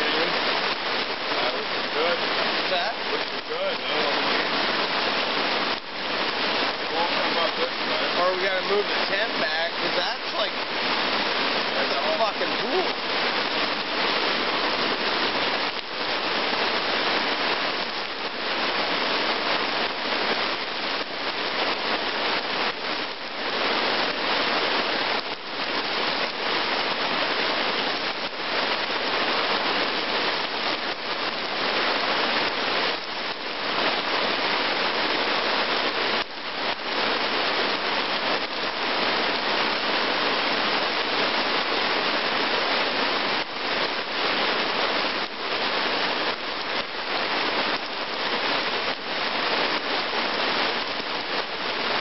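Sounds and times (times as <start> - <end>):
rain on wet ground: 0.0 - 52.0.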